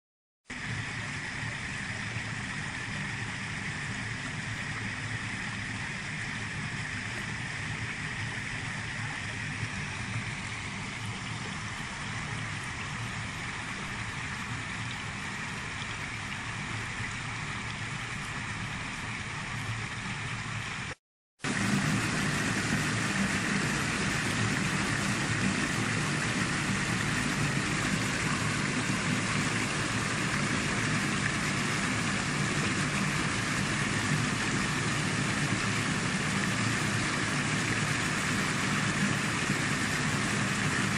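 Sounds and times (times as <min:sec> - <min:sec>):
water rushing over a weir: 0:00.5 - 0:40.9.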